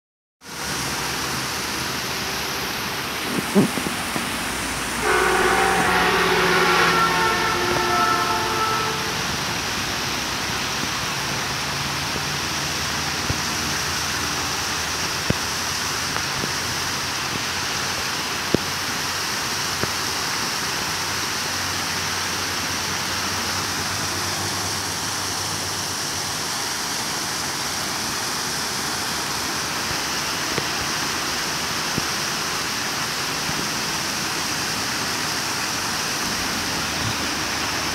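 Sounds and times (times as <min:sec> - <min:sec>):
water rushing down a weir: 0:00.4 - 0:37.9.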